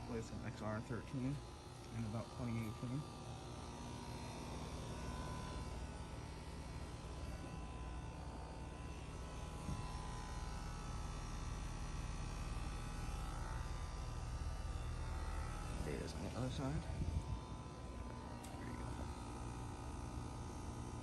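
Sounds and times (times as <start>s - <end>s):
air conditioner unit humming: 0.0s - 21.0s.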